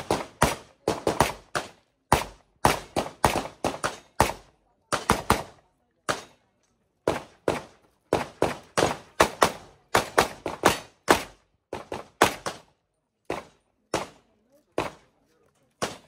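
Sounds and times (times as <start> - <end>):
pistol shots in quick pairs: 0.0 - 6.4, 7.0 - 12.7, 13.3 - 15.0, 15.8 - 16.0.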